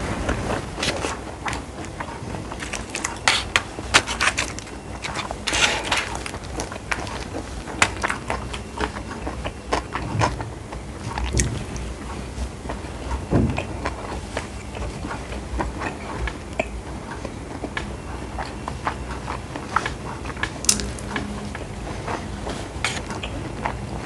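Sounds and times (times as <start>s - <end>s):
person chewing food: 0.2s - 24.0s.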